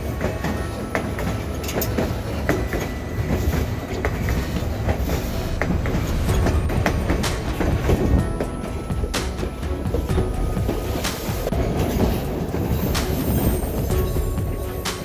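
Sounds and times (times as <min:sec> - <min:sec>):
train cars rumbling on track: 0:00.0 - 0:15.0
wheels clicking over rails: 0:00.0 - 0:15.0.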